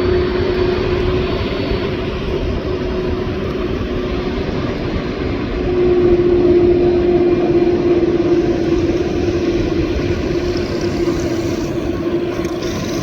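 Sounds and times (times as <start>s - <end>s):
jet engines droning: 0.0s - 13.0s.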